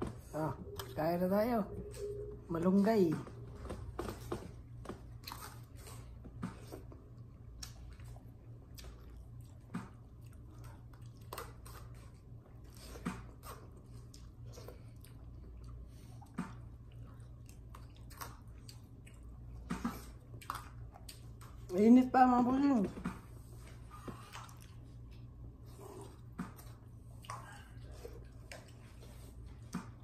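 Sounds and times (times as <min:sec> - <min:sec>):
steady low hum: 0:00.0 - 0:30.0
person chewing: 0:03.6 - 0:21.7, 0:23.4 - 0:30.0.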